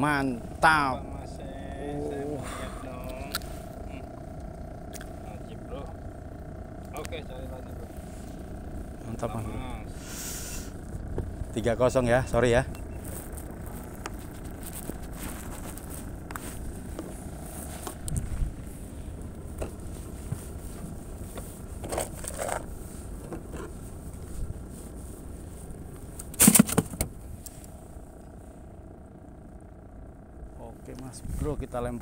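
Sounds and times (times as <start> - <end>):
steady low rumble: 0.0 - 26.4, 27.0 - 32.0.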